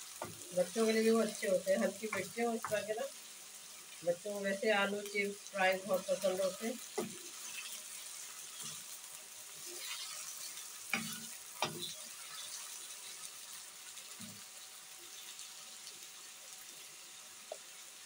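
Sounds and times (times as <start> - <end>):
wooden spoon stirring in pan: 0.0 - 16.5
potatoes sizzling in hot oil: 0.0 - 18.0.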